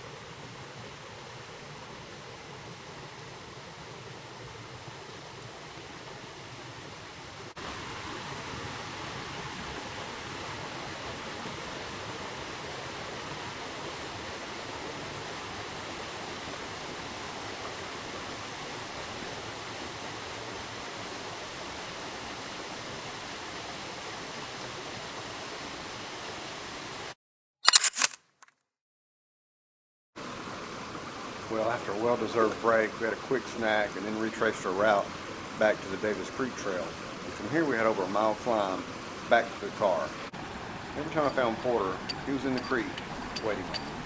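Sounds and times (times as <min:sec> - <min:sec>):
waterfall rushing: 0:00.0 - 0:27.1, 0:30.2 - 0:44.0.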